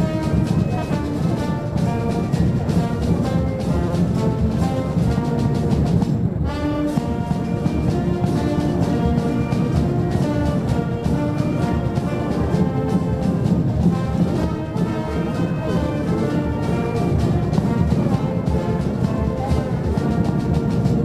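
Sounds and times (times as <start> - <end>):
marching band playing march: 0.0 - 21.0.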